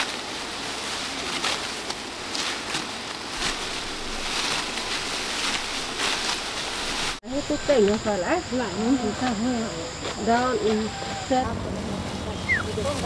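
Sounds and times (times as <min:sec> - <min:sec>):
rice stalks rustling: 0:00.0 - 0:13.0.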